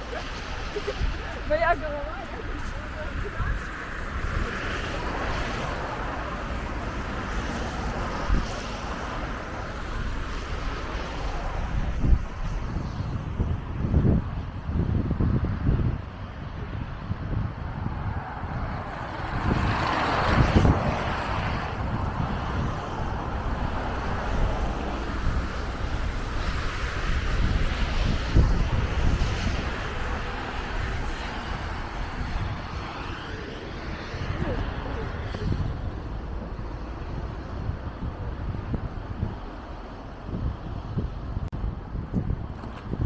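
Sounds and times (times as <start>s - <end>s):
street traffic rumble: 0.0s - 43.0s
wind buffeting microphone: 0.0s - 43.0s.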